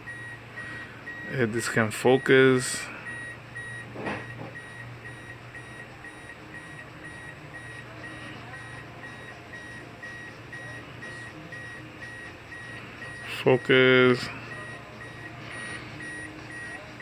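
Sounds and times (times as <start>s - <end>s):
steady low hum: 0.0s - 17.0s
electronic beep: 3.1s - 17.0s.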